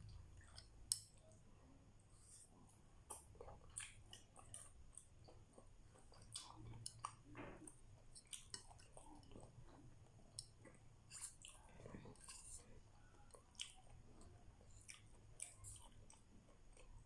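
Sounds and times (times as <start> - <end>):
chewing and wet mouth sounds: 0.0 - 1.5, 2.2 - 17.0.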